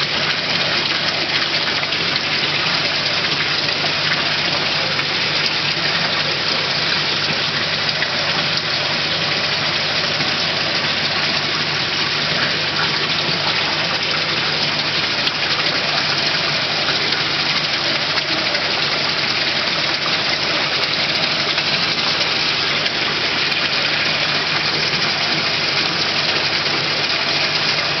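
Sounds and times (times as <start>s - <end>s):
water splashing and churning: 0.0s - 28.0s.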